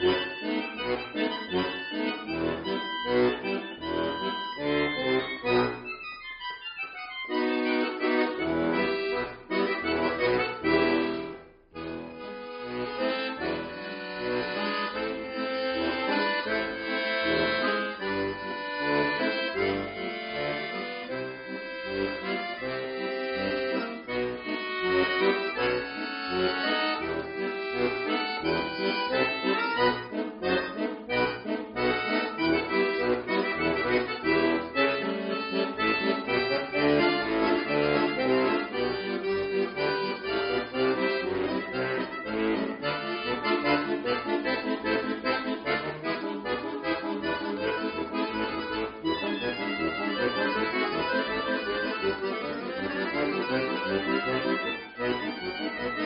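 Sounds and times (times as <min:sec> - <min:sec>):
button accordion playing: 0:00.0 - 0:56.0.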